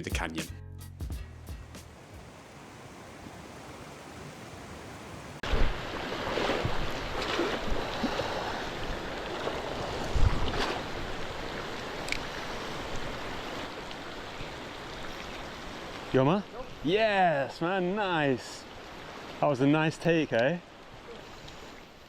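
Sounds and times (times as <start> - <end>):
rushing mountain stream: 1.9 - 22.0.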